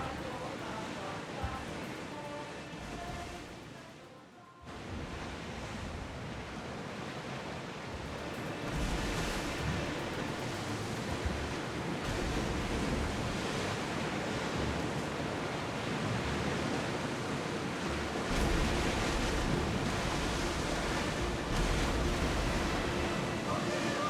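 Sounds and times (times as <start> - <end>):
sea waves: 0.0 - 24.0
wind: 0.0 - 24.0.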